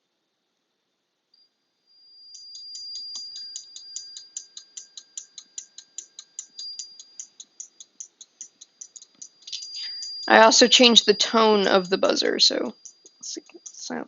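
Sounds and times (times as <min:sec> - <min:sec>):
rapid alarm clicking: 0:02.2 - 0:14.0.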